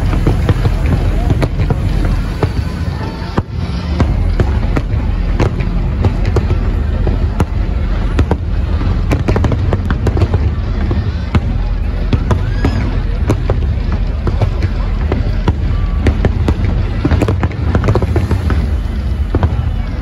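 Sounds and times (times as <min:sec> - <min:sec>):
fireworks bangs and crackles: 0:00.0 - 0:20.0
low rumble: 0:00.0 - 0:20.0.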